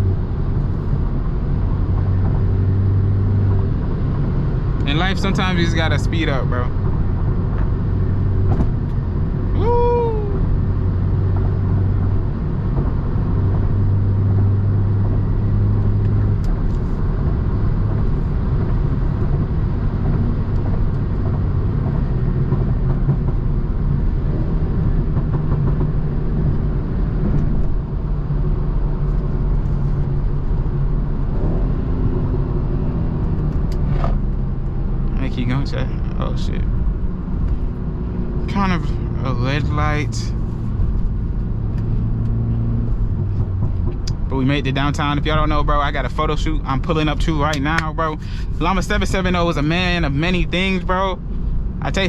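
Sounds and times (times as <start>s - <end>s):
car engine drone from inside: 0.0s - 52.0s
road noise: 0.0s - 52.0s.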